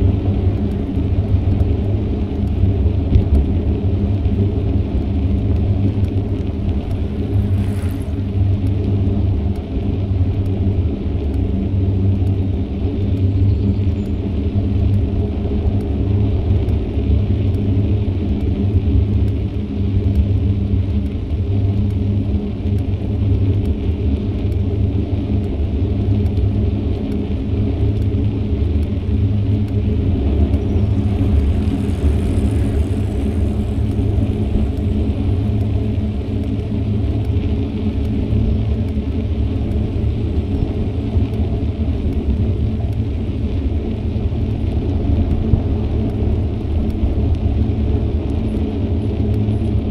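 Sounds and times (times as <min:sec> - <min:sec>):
road noise: 0:00.0 - 0:49.9
wind rumble on microphone: 0:00.0 - 0:49.9.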